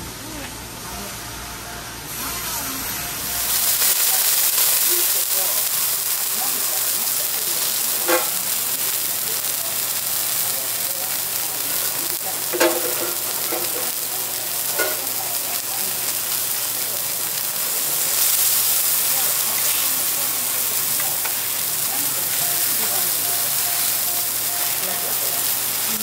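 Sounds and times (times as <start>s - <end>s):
meat sizzling on griddle: 2.1s - 26.0s.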